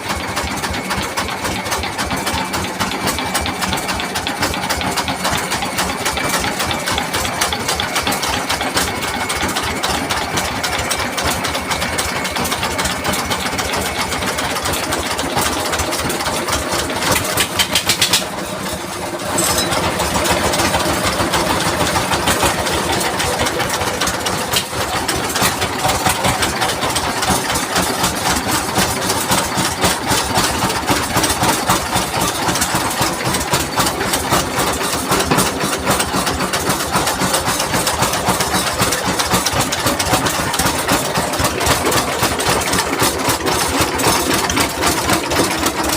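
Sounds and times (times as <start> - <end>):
diesel engine knocking: 0.0 - 45.9.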